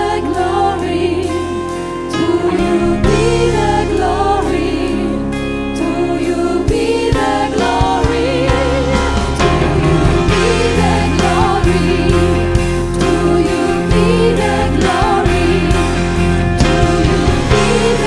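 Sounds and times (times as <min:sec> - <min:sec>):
sung vocals: 0:00.0 - 0:18.0
worship band playing: 0:00.0 - 0:18.0.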